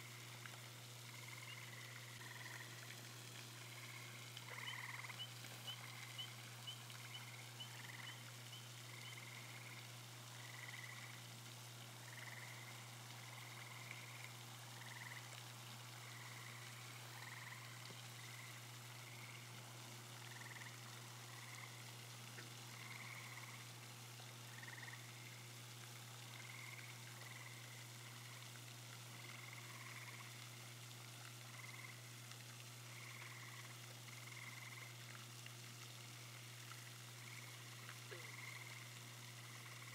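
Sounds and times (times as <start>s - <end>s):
frogs croaking: 0.0s - 11.4s, 12.0s - 39.9s.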